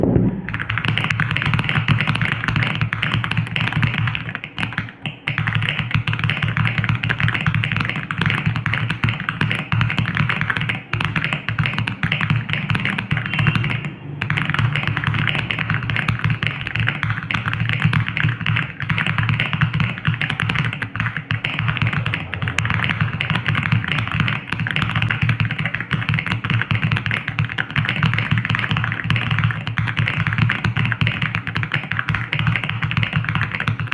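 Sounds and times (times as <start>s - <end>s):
fast typing on mechanical keyboard: 0.5s - 33.9s.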